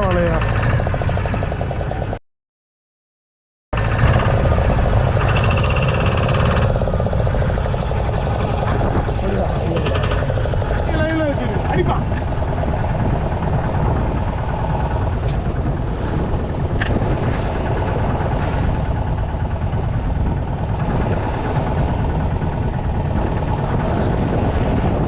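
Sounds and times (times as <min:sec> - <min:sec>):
boat engine running: 0:00.0 - 0:02.2, 0:03.8 - 0:25.0.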